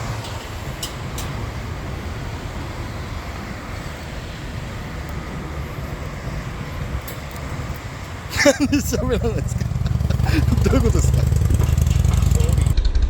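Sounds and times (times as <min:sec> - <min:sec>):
vehicle engine and tyre rumble: 0:00.0 - 0:12.9.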